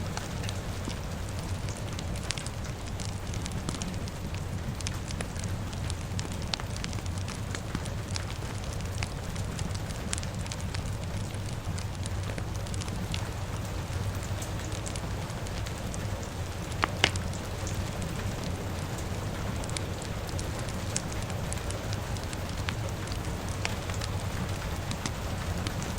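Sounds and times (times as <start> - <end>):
fire crackling and popping: 0.0 - 25.9
rain: 0.0 - 25.9.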